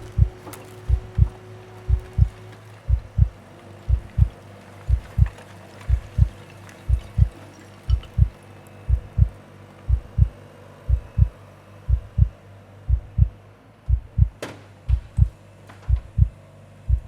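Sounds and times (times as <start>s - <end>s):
heartbeat thumps: 0.0s - 17.0s
steady low hum: 0.0s - 17.0s.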